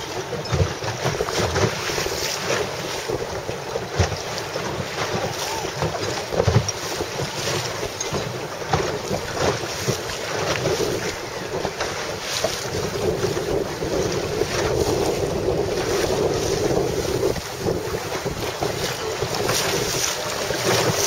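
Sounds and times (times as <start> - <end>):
choppy water splashing: 0.0 - 21.0
wind buffeting microphone: 0.0 - 21.0.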